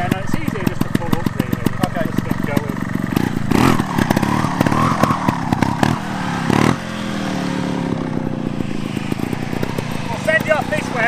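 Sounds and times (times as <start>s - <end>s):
motorbike engine popping: 0.0s - 11.0s.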